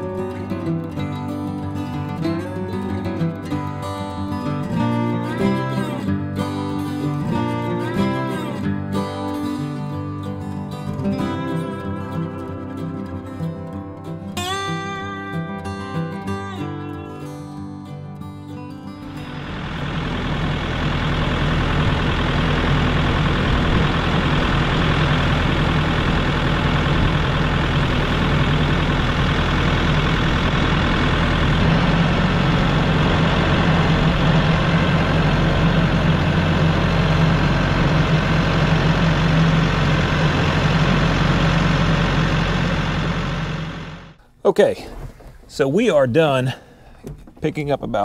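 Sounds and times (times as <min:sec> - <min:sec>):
tractor diesel engine running: 0:00.0 - 0:14.9, 0:18.9 - 0:48.0.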